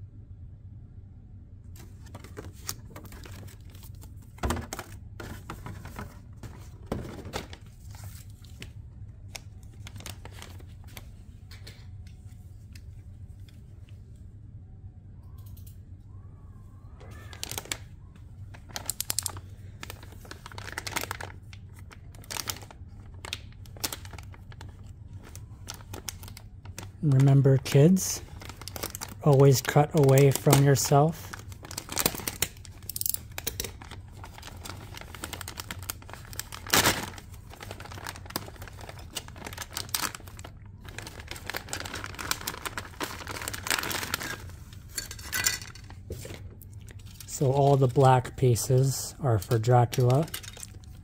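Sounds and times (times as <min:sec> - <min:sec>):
low steady hum: 0:00.0 - 0:51.0
plastic packaging crinkling: 0:01.8 - 0:11.1, 0:17.2 - 0:51.0.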